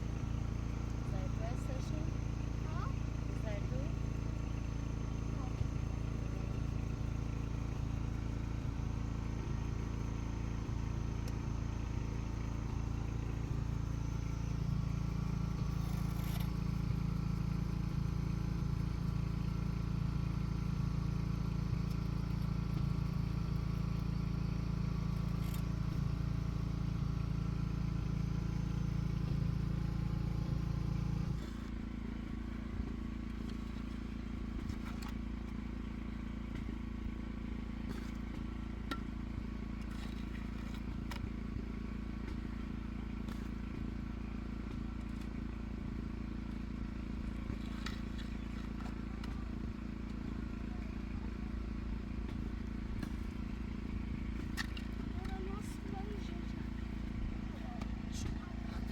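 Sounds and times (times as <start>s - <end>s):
engine humming: 0.0s - 58.9s.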